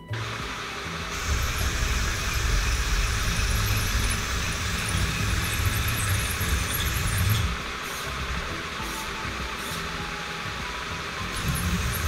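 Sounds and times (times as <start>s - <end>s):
toy crane motor whirring: 0.1s - 12.0s.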